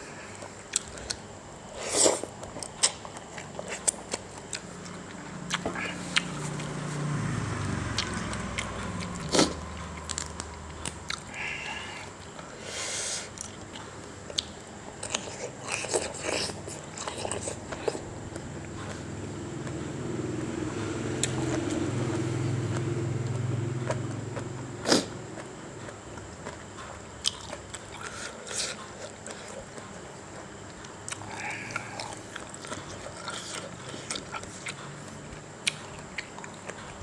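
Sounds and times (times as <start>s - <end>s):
chewing and biting food: 0.3s - 12.6s, 13.3s - 37.0s.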